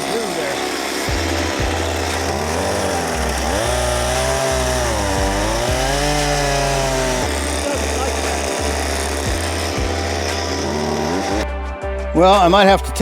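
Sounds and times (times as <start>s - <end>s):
chainsaw cutting into log: 0.0s - 11.4s.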